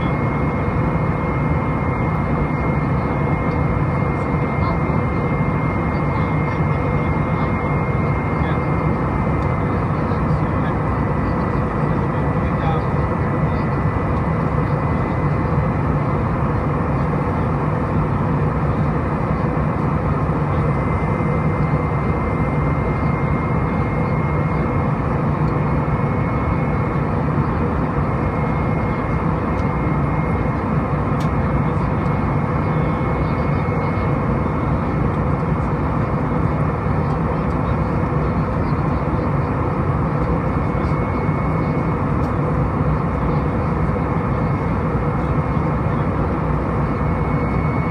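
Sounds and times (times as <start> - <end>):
jet engine drone in cabin: 0.0 - 47.9.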